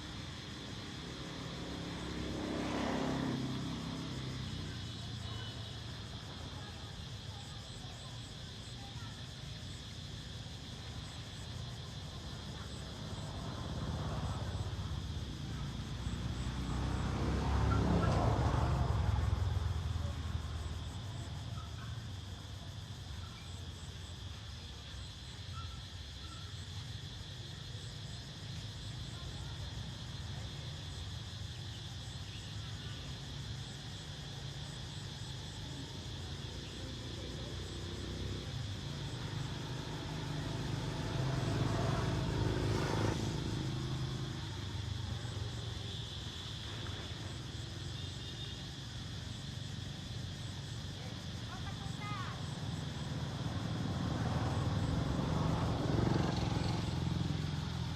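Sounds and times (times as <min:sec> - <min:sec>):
insects droning: 0:00.0 - 0:57.9.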